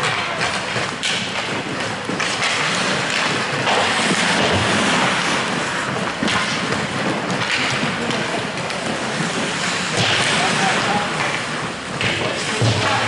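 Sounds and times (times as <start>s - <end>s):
skates hissing on ice: 2.5s - 13.0s.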